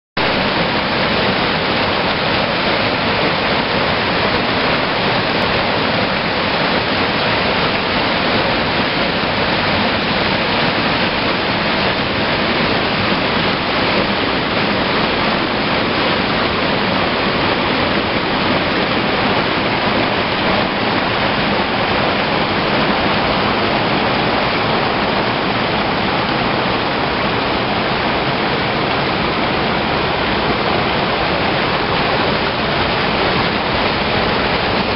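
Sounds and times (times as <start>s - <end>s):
water rushing over rocks: 0.2s - 34.9s.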